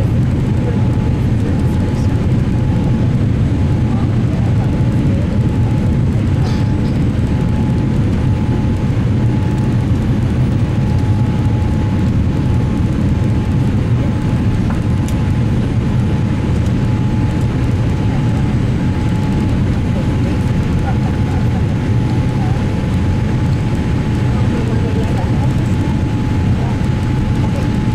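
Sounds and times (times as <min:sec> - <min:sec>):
engine and airflow rumble: 0:00.0 - 0:27.9
faint steady whine: 0:00.0 - 0:27.9.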